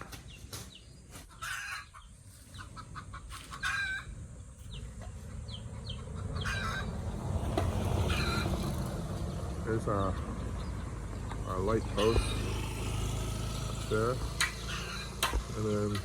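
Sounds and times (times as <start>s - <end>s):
chickens clucking and squawking: 0.0s - 15.5s.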